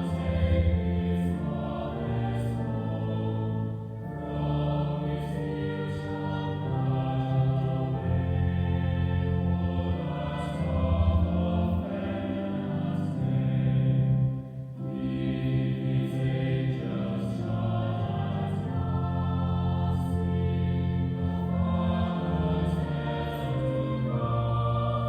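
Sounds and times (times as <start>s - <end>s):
choir singing sustained chords: 0.0s - 25.0s.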